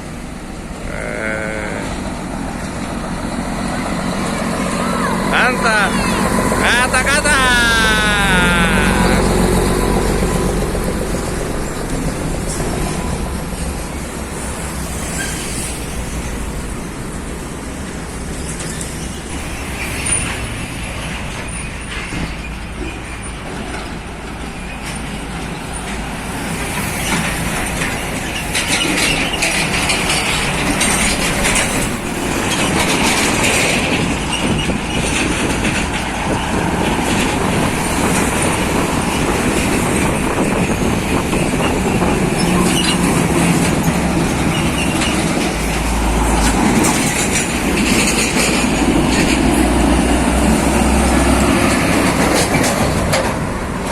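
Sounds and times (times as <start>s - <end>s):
trucks driving past: 0.0s - 53.9s.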